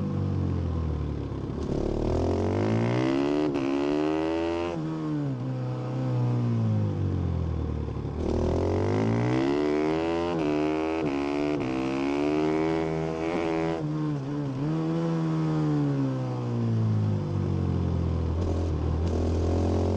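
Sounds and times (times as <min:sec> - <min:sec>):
motorcycle engine accelerating: 0:00.0 - 0:19.9.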